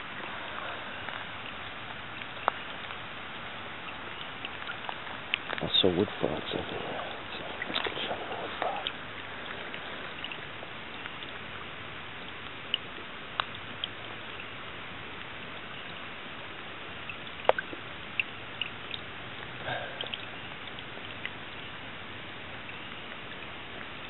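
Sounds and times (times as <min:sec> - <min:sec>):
frogs clucking: 0:00.0 - 0:24.0
steady hiss: 0:00.0 - 0:24.0.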